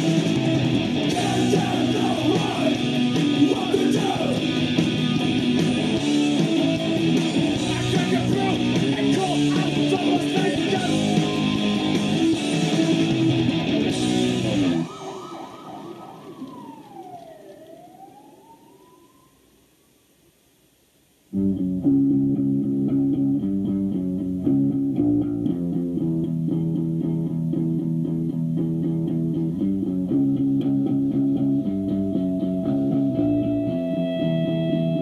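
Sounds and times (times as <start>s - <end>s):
bass guitar: 0.0s - 14.9s, 21.3s - 35.0s
distorted electric guitars: 0.0s - 17.8s, 21.3s - 35.0s
drums: 0.0s - 18.6s, 21.3s - 35.0s.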